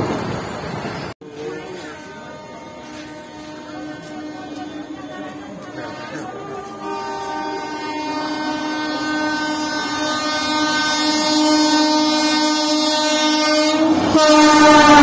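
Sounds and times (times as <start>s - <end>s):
locomotive horn blowing: 1.8s - 15.0s.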